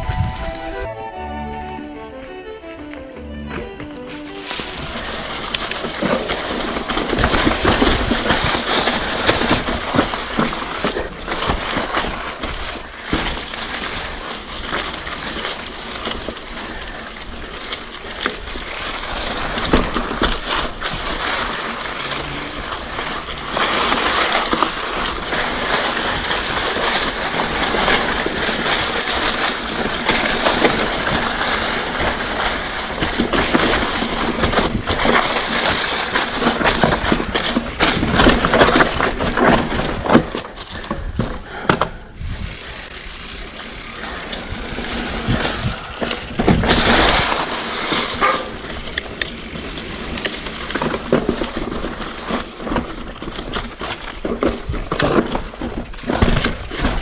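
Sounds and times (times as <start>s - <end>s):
bike tyres crunching on dirt: 0.0s - 57.0s
bike knocking and rattling: 3.4s - 57.0s.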